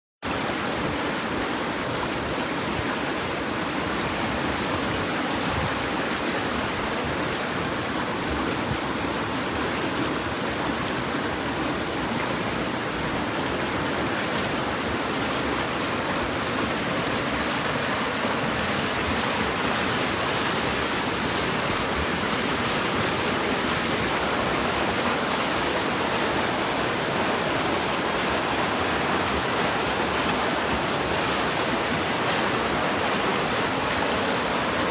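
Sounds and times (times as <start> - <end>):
rushing water: 0.2 - 34.9.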